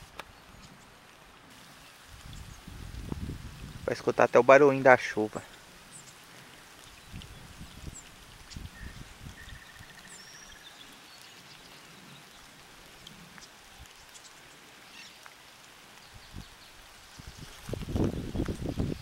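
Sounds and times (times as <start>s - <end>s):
light rain on pond and grass: 0.0s - 19.0s.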